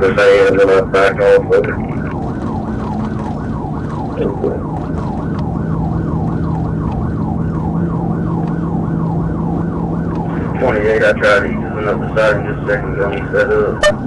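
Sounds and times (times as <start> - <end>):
car engine drone: 0.0 - 14.0
police siren yelping: 0.0 - 14.0
road noise: 0.0 - 14.0.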